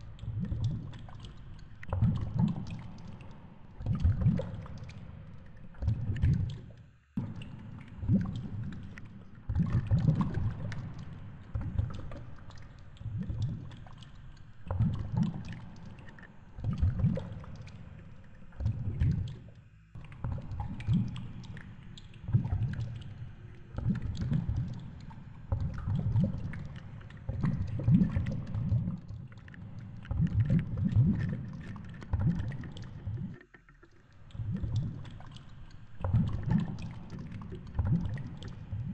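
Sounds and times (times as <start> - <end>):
faint clicks and ticks: 0.0 - 38.9
muffled underwater water surges: 0.0 - 38.9.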